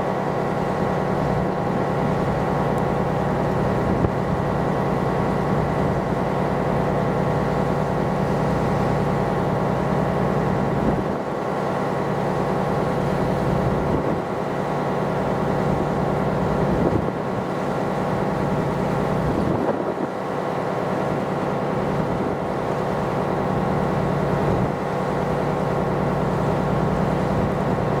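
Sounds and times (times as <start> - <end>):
ship engine hum and rumble: 0.0 - 28.0.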